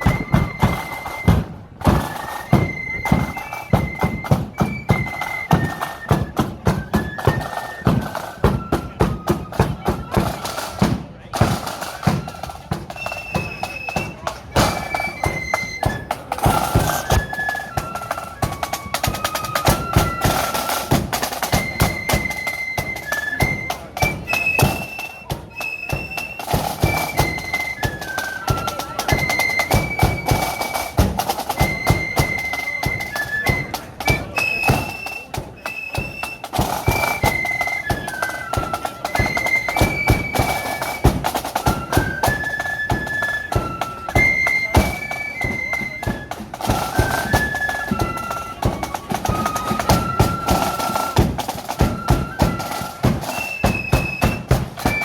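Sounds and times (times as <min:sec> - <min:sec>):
bass and snare drums: 0:00.0 - 0:55.0
flutes playing melody: 0:00.0 - 0:55.0.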